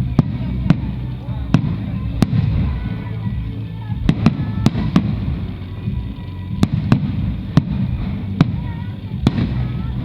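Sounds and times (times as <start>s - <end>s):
fireworks bangs: 0.0s - 10.0s
low fireworks rumble: 0.0s - 10.0s
music playing: 0.0s - 10.0s.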